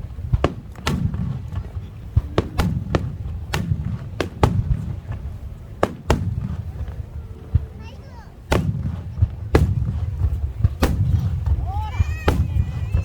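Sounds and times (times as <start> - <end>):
firework shells bursting: 0.0 - 7.7, 8.4 - 13.0
rumbling low echo: 0.0 - 13.0.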